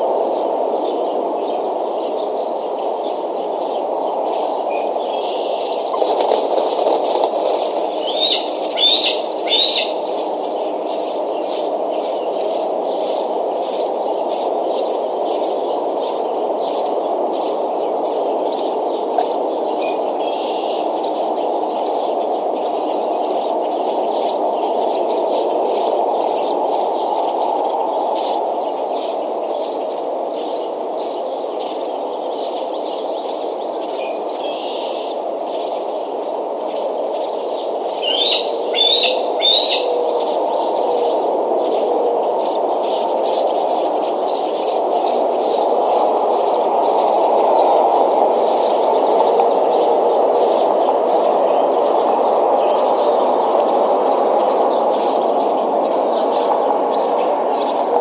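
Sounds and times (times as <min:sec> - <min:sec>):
bird chirping: 0:03.6 - 0:58.0.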